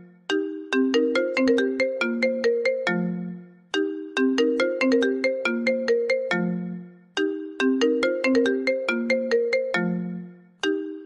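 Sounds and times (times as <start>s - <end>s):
phone ringtone melody: 0.0s - 11.0s.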